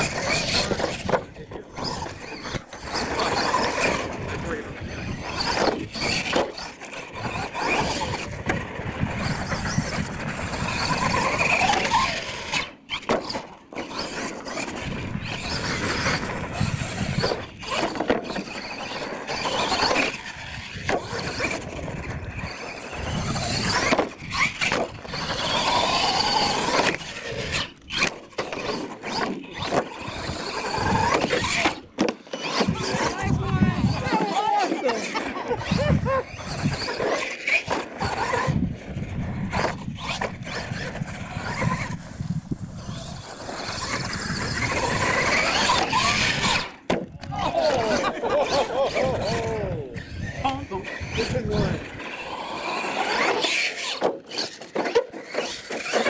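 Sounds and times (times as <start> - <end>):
toy truck motor whining: 0.0 - 56.0.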